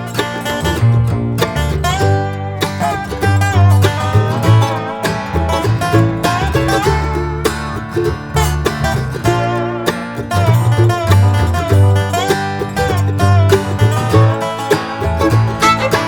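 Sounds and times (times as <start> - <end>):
plucked strings over bass line: 0.0 - 16.0.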